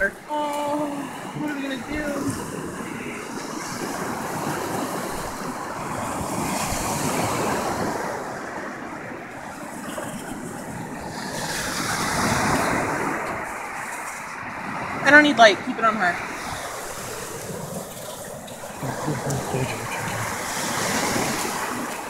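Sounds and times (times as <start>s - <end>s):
ocean surf washing up beach: 0.0s - 22.0s.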